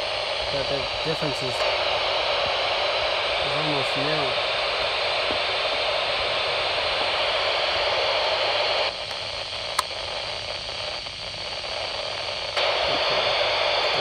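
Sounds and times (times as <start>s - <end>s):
scanner static hiss: 0.0s - 14.0s.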